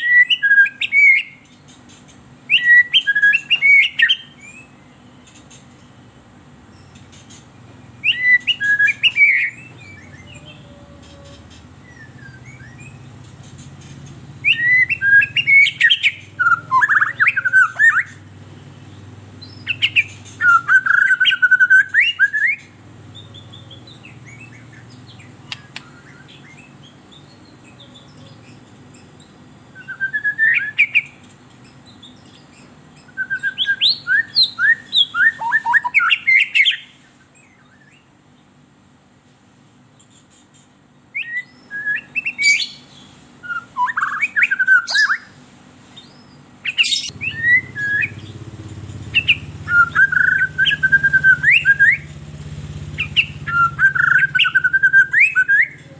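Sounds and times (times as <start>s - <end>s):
bird whistling song: 0.0s - 1.8s, 2.4s - 5.9s, 7.8s - 13.2s, 14.4s - 38.1s, 41.1s - 45.4s, 46.0s - 55.9s
low steady hum: 0.0s - 55.9s.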